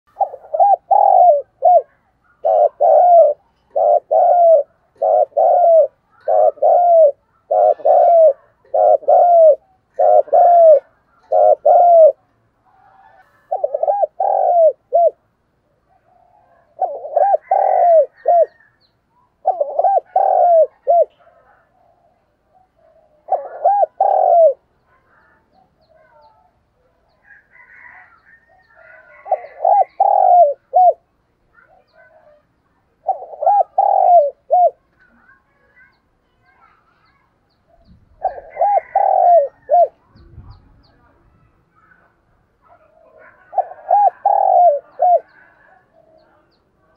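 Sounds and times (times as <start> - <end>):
dove cooing: 0.1 - 37.1, 37.7 - 40.9, 42.6 - 46.9.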